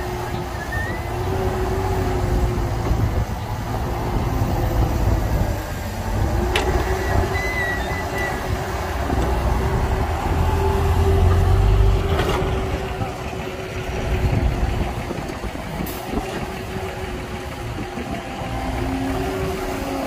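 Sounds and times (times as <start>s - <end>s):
heavy diesel machinery rumble: 0.0s - 20.0s.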